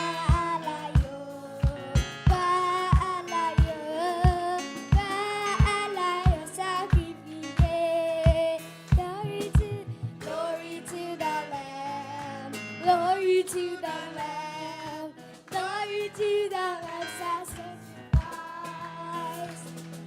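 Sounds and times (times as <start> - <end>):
high voices singing worship song: 0.0 - 20.0
instrumental backing: 0.0 - 20.0.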